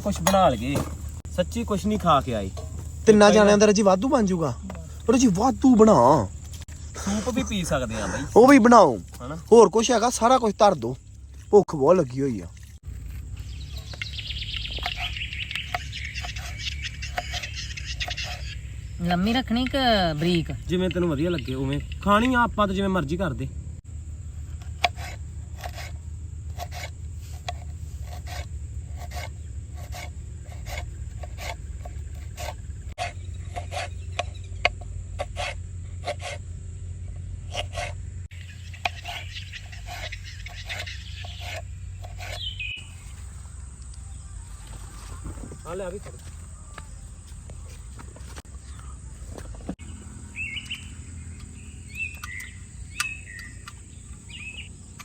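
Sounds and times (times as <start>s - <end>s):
bird chirping: 0.0s - 22.8s, 29.1s - 34.8s, 36.7s - 55.0s
low outdoor rumble: 0.0s - 55.0s.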